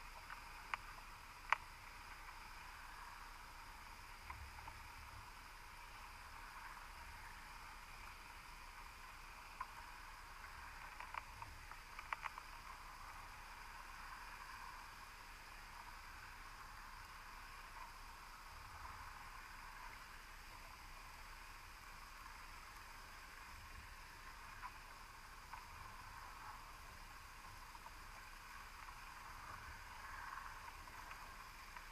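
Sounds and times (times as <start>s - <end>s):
faint sharp ticks: 0.0s - 31.9s.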